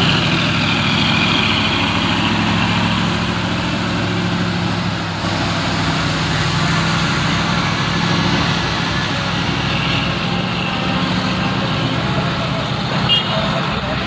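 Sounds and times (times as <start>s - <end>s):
truck diesel engine labouring: 0.0s - 14.0s.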